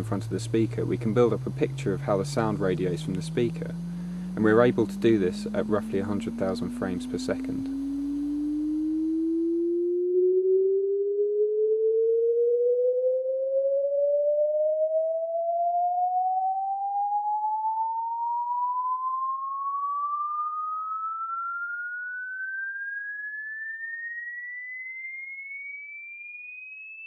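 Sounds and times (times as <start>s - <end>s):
rising sine tone sweep: 0.0s - 27.0s.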